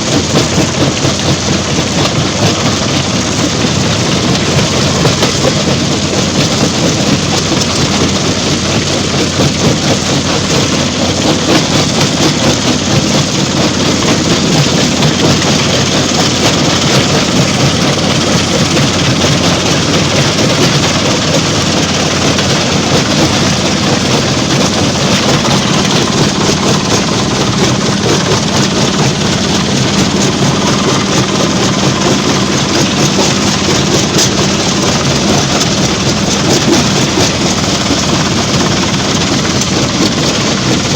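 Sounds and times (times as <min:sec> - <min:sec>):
low engine hum: 0:00.0 - 0:40.9
stone crusher machinery clatter: 0:00.0 - 0:40.9.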